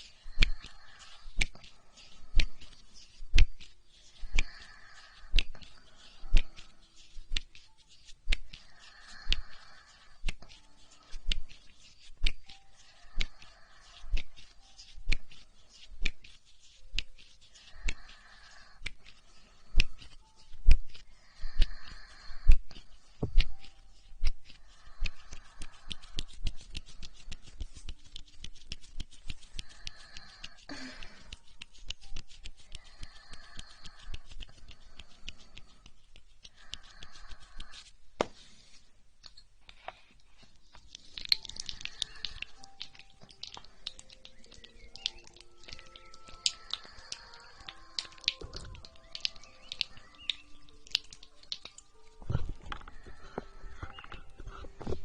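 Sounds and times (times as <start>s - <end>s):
fine crackling and tapping: 0.0s - 38.5s, 39.3s - 55.0s
soft breathing close to microphone: 0.0s - 55.0s.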